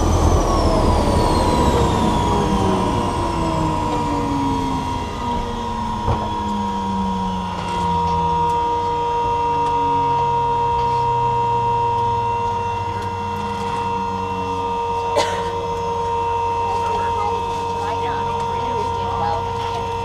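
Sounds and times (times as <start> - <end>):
aircraft engine winding down: 0.0 - 20.0
high whine: 0.0 - 20.0.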